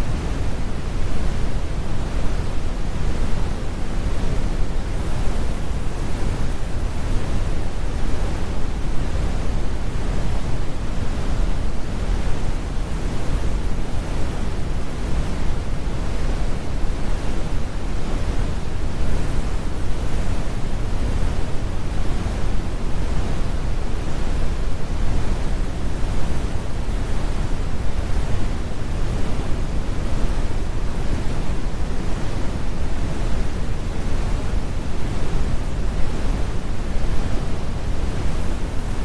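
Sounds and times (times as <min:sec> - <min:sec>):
brown noise hiss: 0:00.0 - 0:39.0.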